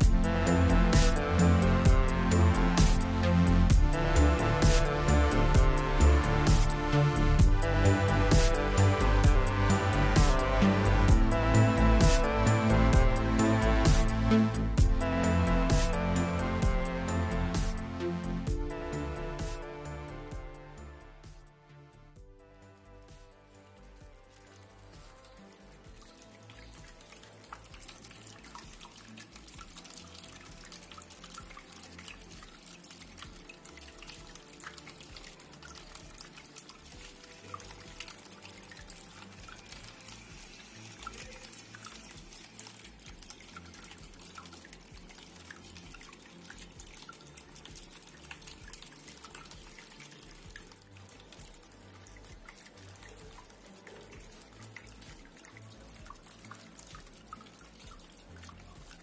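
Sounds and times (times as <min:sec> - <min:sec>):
water trickling in a fountain: 0:00.0 - 0:59.0.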